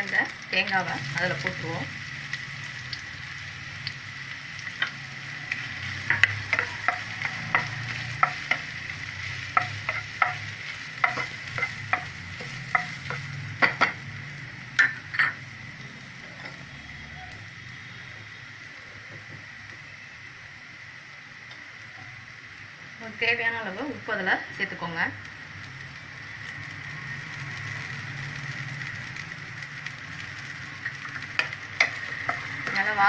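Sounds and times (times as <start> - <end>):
coconut sizzling in hot oil: 0.0 - 33.0.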